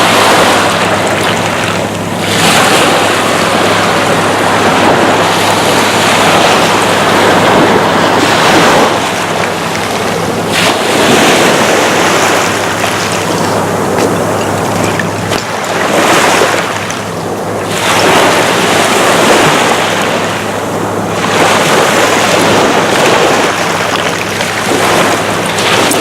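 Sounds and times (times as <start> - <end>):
small waves washing on beach: 0.0 - 26.0
wind buffeting microphone: 0.0 - 26.0.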